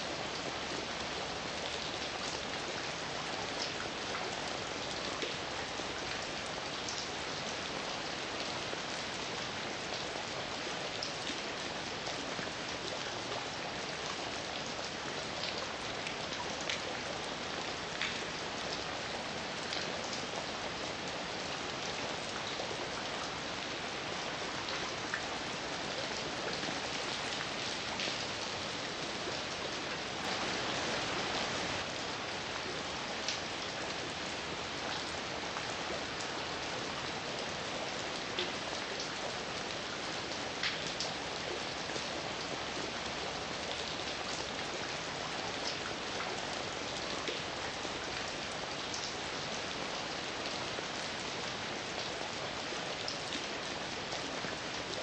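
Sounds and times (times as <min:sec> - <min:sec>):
heavy rain falling: 0:00.1 - 0:55.0
raindrops striking a surface: 0:00.2 - 0:55.0.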